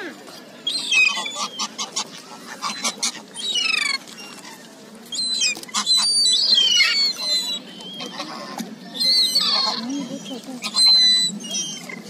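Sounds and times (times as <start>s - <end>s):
birds chirping: 0.5s - 12.0s.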